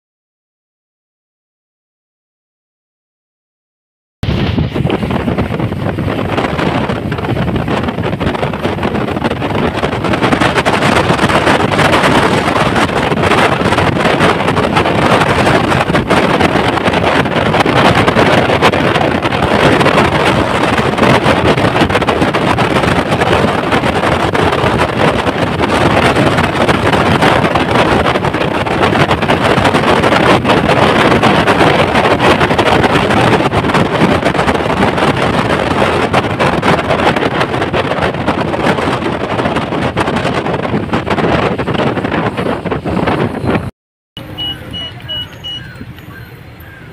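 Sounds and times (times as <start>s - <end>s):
road noise: 4.2s - 46.9s
wind buffeting microphone: 4.2s - 46.9s.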